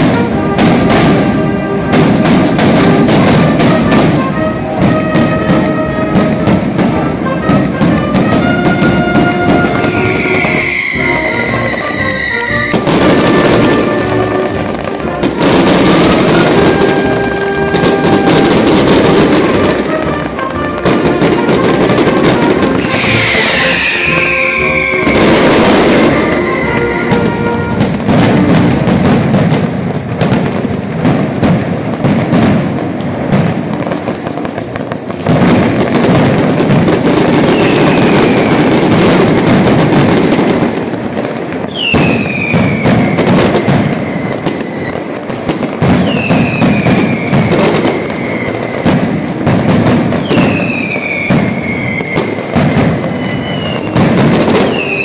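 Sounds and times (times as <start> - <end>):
firecrackers banging: 0.0 - 55.0
whistling fireworks: 0.0 - 55.0.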